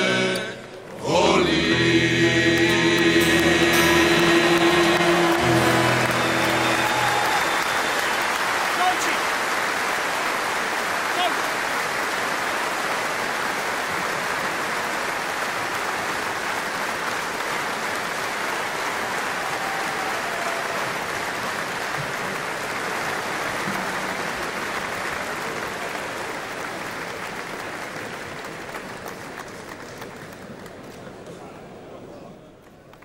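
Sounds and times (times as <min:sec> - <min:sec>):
large crowd applauding: 0:02.5 - 0:31.4.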